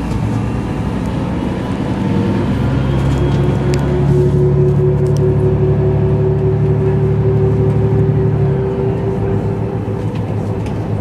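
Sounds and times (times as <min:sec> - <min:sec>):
bus engine deep drone: 0:00.0 - 0:11.0
gearbox whine: 0:00.0 - 0:11.0.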